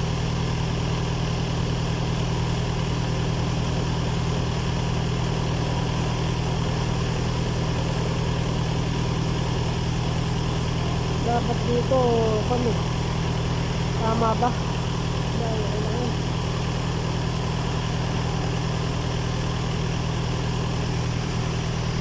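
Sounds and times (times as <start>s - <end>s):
diesel engine running with low hum: 0.0s - 22.0s.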